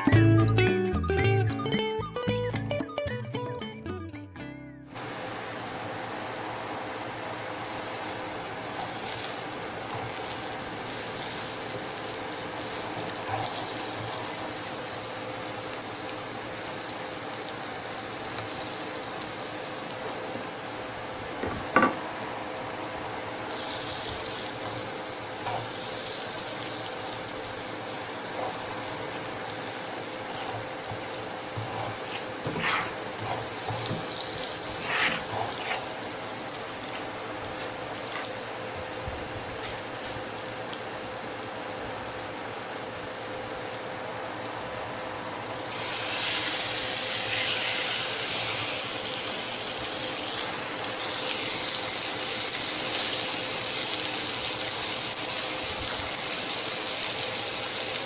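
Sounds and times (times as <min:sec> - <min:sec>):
butter and oil sizzling in pan: 0:05.0 - 0:41.7, 0:45.4 - 0:58.0.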